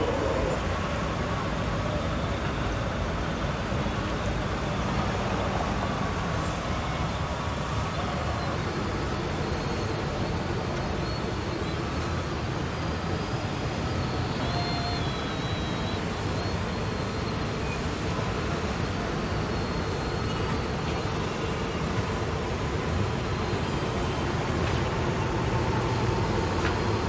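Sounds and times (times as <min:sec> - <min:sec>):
model machines whirring: 0:00.0 - 0:27.0
small motors whining: 0:00.0 - 0:27.0.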